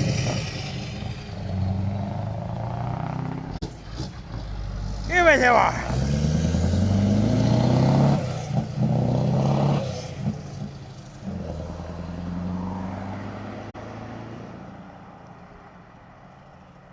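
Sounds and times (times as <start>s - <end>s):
truck diesel engines revving: 0.0s - 14.8s.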